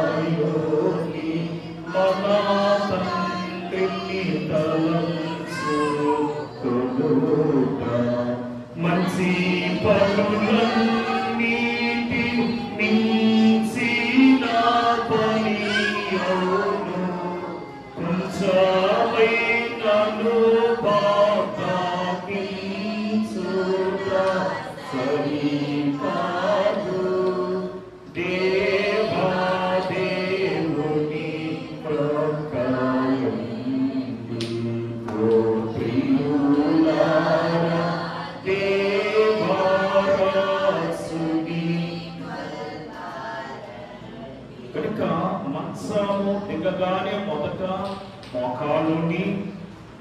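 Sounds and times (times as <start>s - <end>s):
voices singing a hymn: 0.0s - 50.0s.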